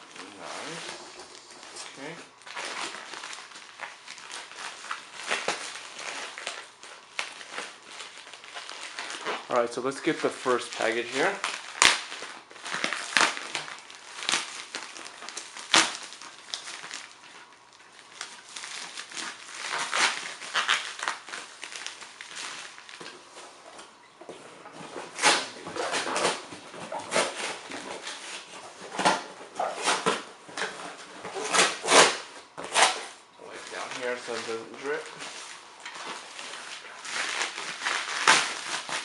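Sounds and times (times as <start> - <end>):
packing material rustling: 0.0 - 23.6, 24.7 - 39.0.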